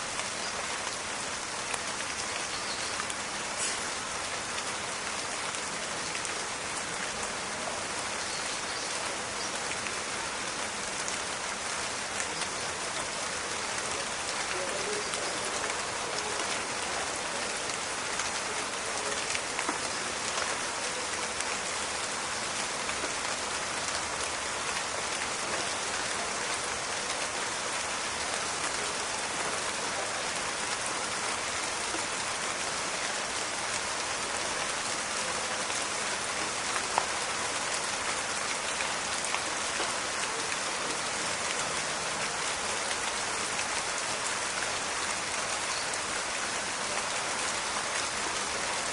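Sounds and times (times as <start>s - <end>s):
rain falling in forest: 0.0s - 48.9s.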